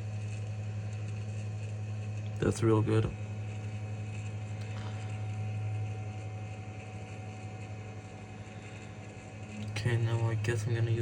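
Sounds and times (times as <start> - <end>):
faint constant whine: 0.0 - 11.0
low electrical hum: 0.0 - 11.0.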